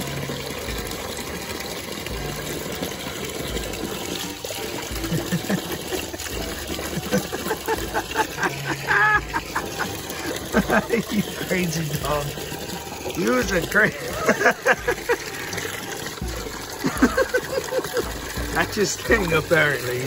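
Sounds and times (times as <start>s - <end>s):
puppy splashing and lapping water: 0.0s - 20.0s
water pouring into plastic bucket: 0.0s - 20.0s.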